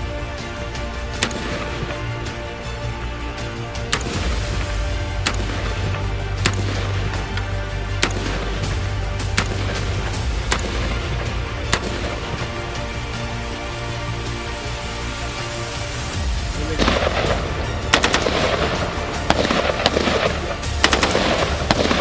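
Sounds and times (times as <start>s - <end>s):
rifle shots: 0.0s - 14.7s, 16.8s - 22.0s
background music: 0.0s - 22.0s.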